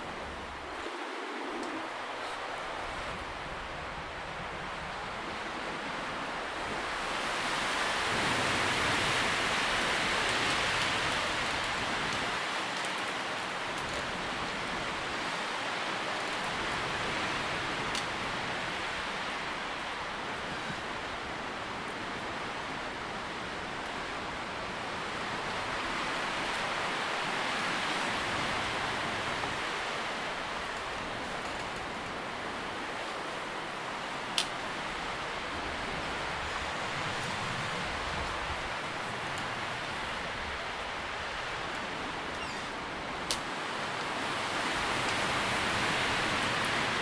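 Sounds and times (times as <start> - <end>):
wind rustling leaves: 0.0 - 47.0.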